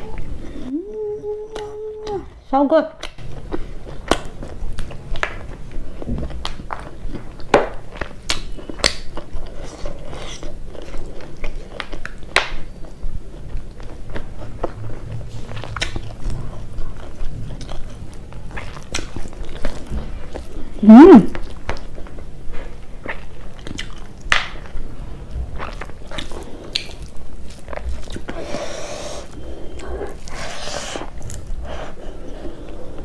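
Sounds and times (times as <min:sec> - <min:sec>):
person chewing food: 0:03.0 - 0:24.9, 0:25.5 - 0:33.0.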